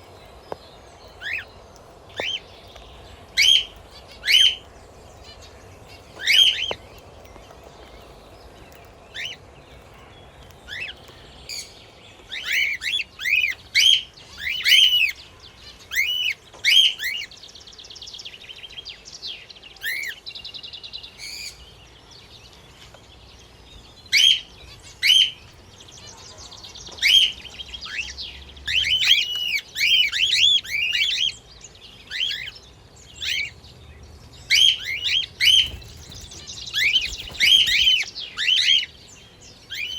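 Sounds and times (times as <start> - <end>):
birds chirping: 0.0 - 39.9
soft buzzy bird chatter: 0.0 - 39.9.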